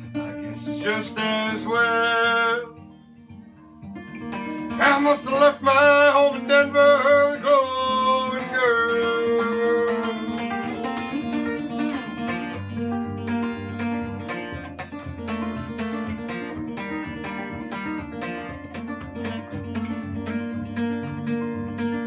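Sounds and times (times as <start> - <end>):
acoustic guitar picking and strumming: 0.0 - 22.0.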